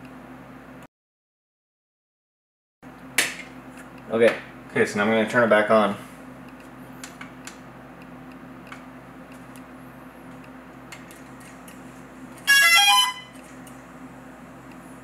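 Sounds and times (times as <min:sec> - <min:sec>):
faint steady hum: 0:02.9 - 0:15.0.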